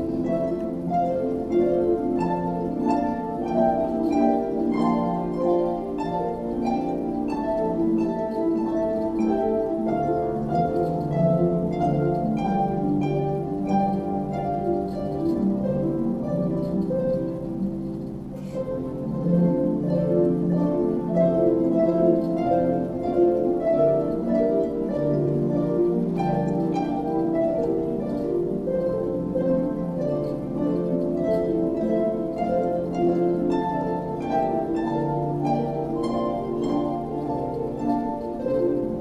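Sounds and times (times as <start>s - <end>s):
harp ensemble playing: 0.0s - 39.0s.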